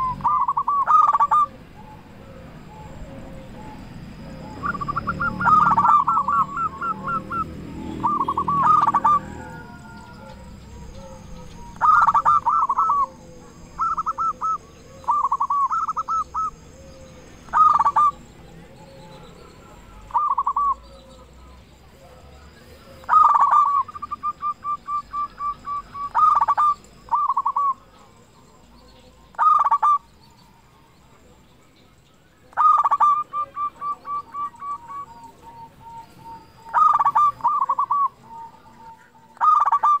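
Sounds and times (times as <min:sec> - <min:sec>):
dove cooing: 0:00.0 - 0:31.3, 0:32.4 - 0:40.0.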